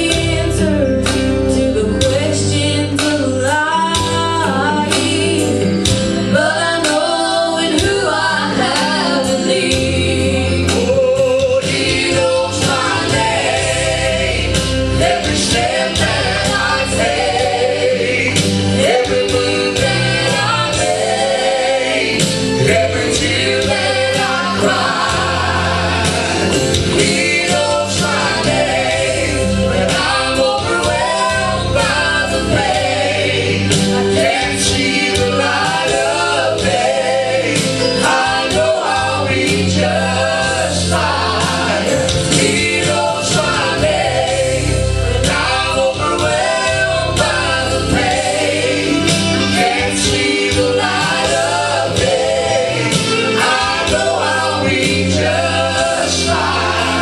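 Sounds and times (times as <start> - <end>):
gospel singing with band: 0.0 - 57.0.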